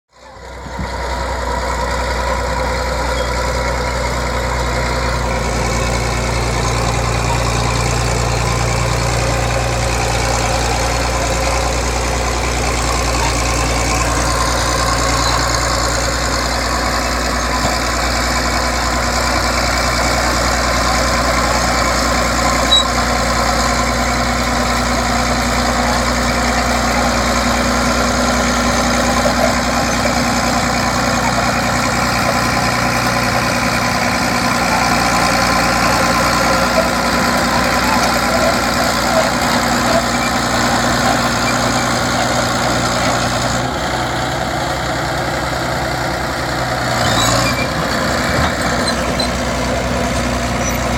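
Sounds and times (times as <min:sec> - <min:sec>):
bulldozer engine running under load: 0:00.1 - 0:50.9.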